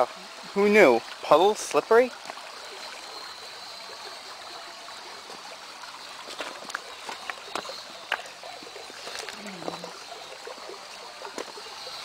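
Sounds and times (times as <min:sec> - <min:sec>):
creek water trickling over rocks: 0:00.0 - 0:12.0.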